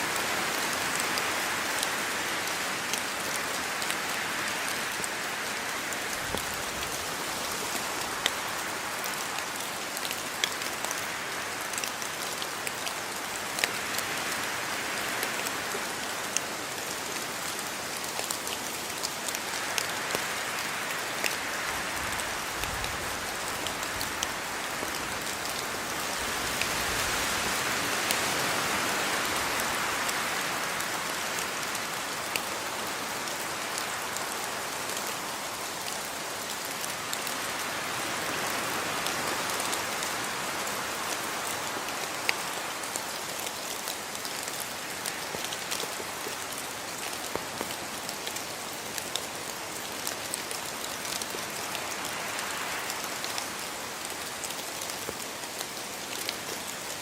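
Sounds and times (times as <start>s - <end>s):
raindrops pattering on a surface: 0.0s - 57.0s
steady rain hissing: 0.0s - 57.0s.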